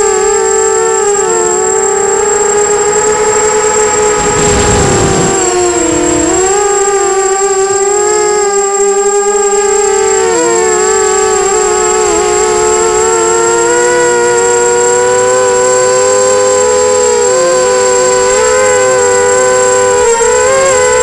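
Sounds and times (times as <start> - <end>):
drone motors and propellers whining: 0.0 - 21.0.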